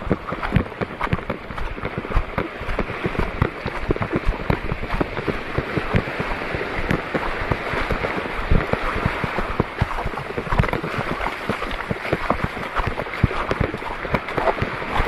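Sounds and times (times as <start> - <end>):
rushing water: 0.0 - 15.0
wind: 0.0 - 15.0
wind buffeting microphone: 0.0 - 15.0.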